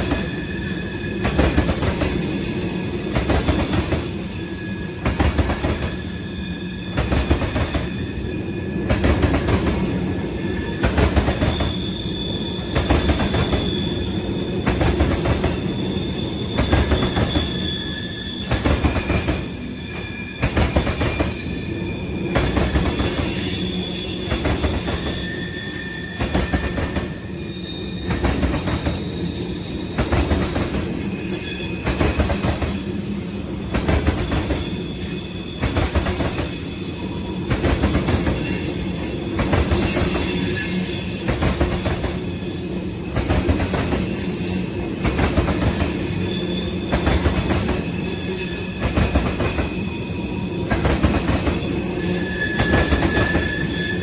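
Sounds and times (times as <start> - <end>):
wheel squeal: 0.0 - 54.0.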